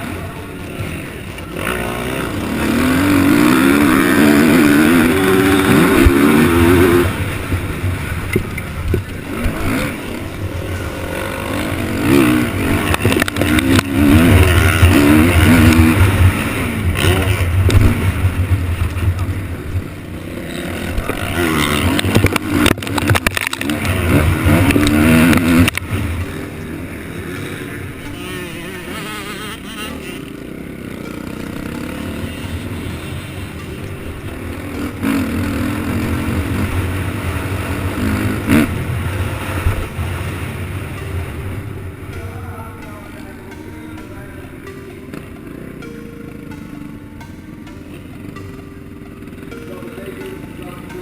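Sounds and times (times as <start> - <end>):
motocross engines revving: 0.0 - 51.0.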